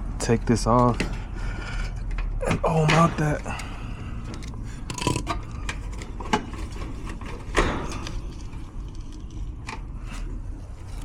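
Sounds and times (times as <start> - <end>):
low steady hum: 0.0 - 11.0
clicks and handling noises: 1.8 - 11.0.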